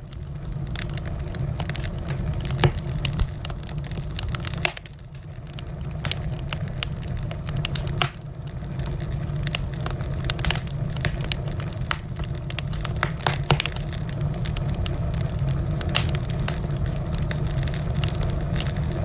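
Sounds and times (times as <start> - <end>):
low rumble of fire: 0.0 - 19.0
wood fire crackling: 0.0 - 19.0.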